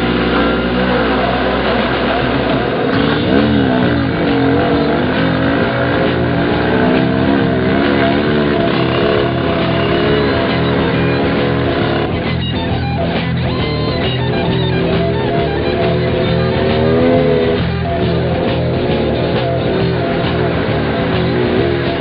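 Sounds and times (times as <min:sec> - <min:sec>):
guitar rock music: 0:00.0 - 0:22.0.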